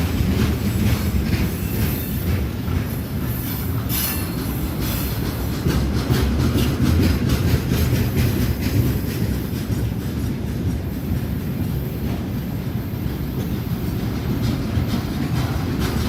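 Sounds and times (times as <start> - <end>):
train wheels rumbling: 0.0 - 16.0
wheels clacking over rail joints: 0.0 - 16.0.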